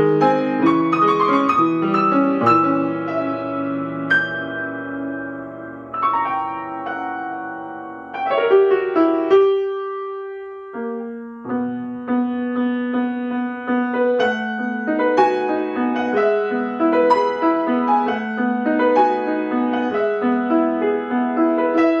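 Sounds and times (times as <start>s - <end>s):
solo piano classical piece: 0.0s - 22.0s.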